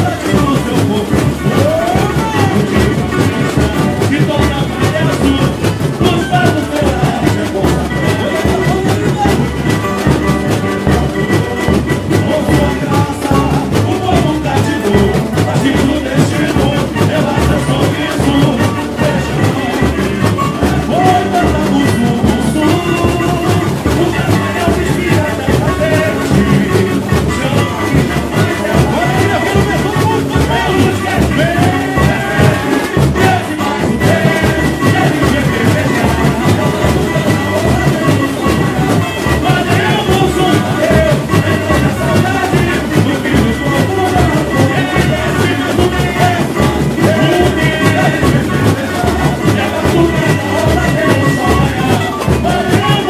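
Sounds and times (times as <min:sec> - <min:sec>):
crowd singing: 0:00.0 - 0:53.0
samba drums: 0:00.0 - 0:53.0.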